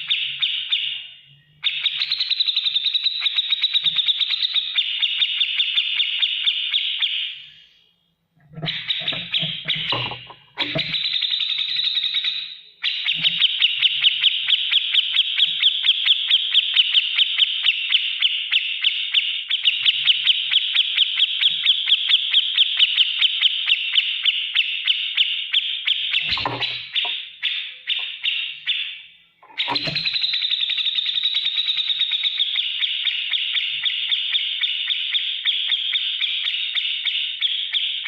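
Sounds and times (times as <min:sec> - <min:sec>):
bird singing harsh ticking song: 0:00.0 - 0:07.8, 0:08.4 - 0:38.0.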